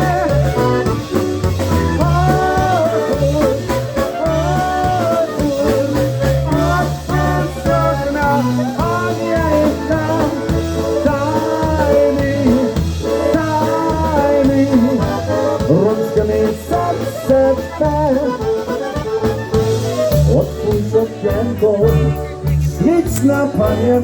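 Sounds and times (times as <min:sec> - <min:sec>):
polka band playing: 0:00.0 - 0:24.0.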